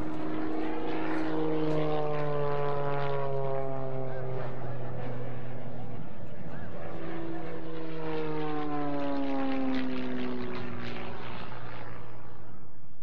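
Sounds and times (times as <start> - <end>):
propeller airplane flyby: 0.0 - 13.0.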